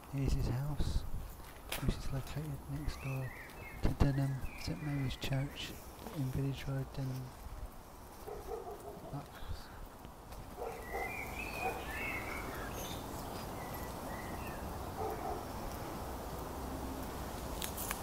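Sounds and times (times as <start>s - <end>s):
birds chirping and warbling: 0.1s - 17.9s.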